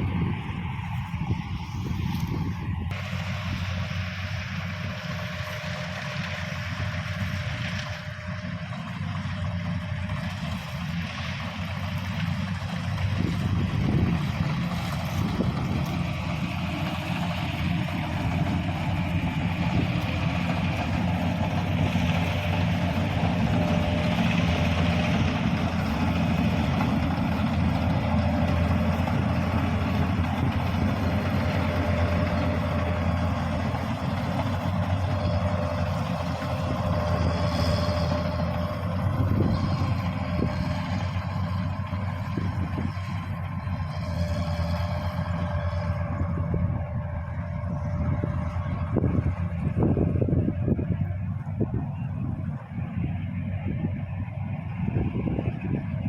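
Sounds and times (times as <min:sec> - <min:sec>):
diesel engine drone: 0:00.0 - 0:56.0
thin machinery whine: 0:00.0 - 0:56.0.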